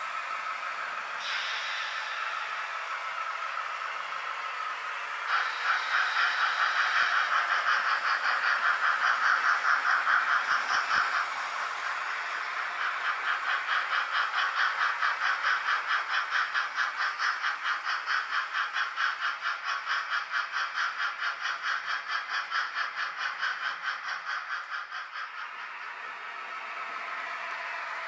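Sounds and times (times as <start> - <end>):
model steam locomotive chuffing: 0.0 - 28.0.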